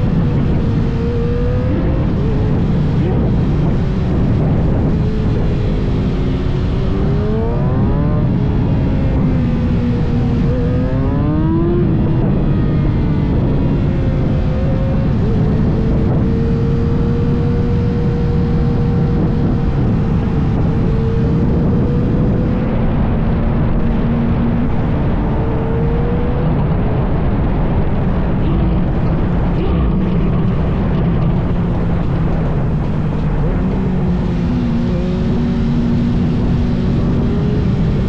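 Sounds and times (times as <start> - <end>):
motorcycle engine: 0.0 - 38.0
wind rumble on microphone: 0.0 - 38.0.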